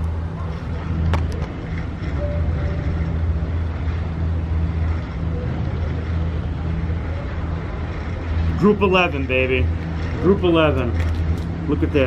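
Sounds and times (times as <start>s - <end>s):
motor humming and rumbling: 0.0s - 12.0s.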